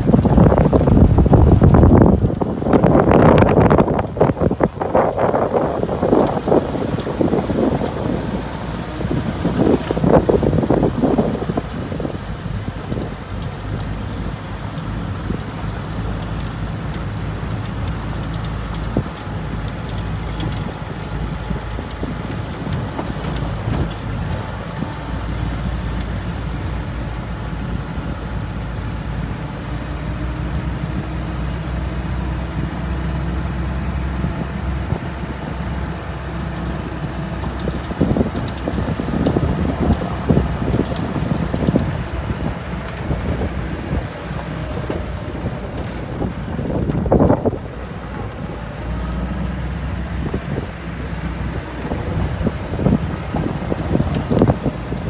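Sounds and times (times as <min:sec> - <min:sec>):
tyres on gravel road: 0:00.0 - 0:55.0
vehicle engine running: 0:00.0 - 0:55.0
wind rumble on microphone: 0:00.0 - 0:55.0.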